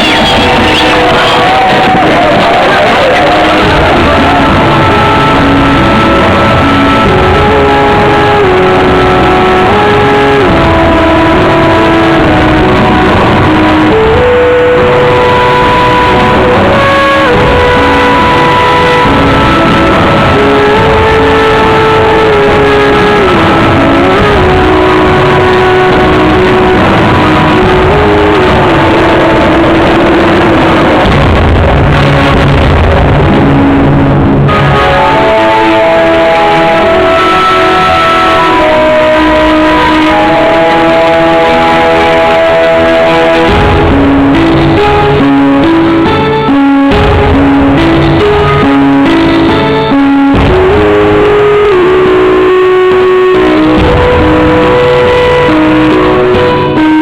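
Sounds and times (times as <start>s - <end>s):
loud densely mixed music: 0.0s - 57.0s.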